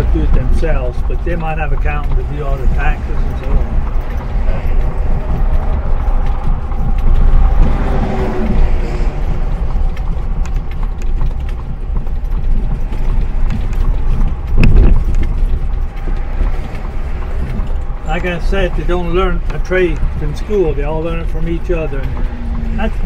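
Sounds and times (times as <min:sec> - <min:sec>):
buggy cab creaking: 0:00.0 - 0:23.0
horse hooves clip-clopping: 0:00.0 - 0:23.0
wheels rumbling on road: 0:00.0 - 0:23.0.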